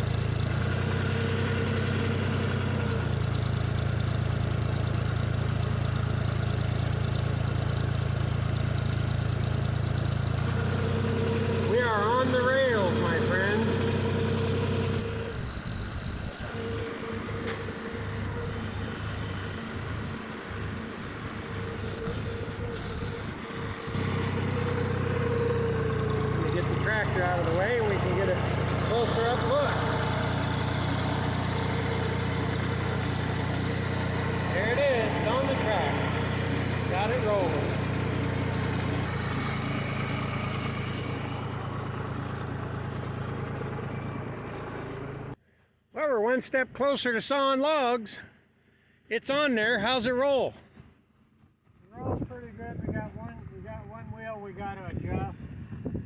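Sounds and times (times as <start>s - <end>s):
tractor engine running: 0.0s - 45.4s.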